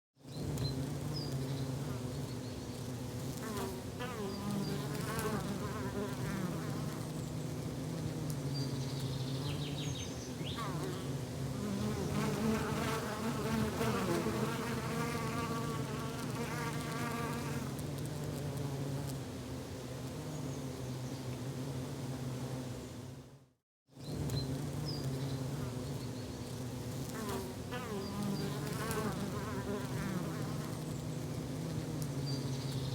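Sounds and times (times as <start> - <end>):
insects buzzing: 0.2 - 23.4, 24.0 - 32.9.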